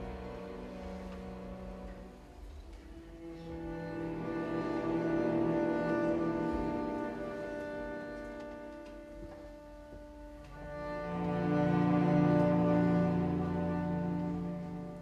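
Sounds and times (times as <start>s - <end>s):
cellos and basses: 0.0s - 15.0s
string orchestra chords: 0.0s - 15.0s.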